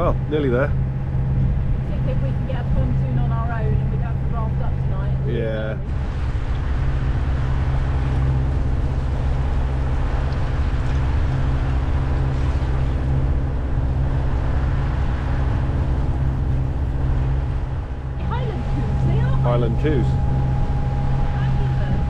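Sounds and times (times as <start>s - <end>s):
diesel engine drone: 0.0s - 22.0s
hiss of wind and water: 0.0s - 22.0s.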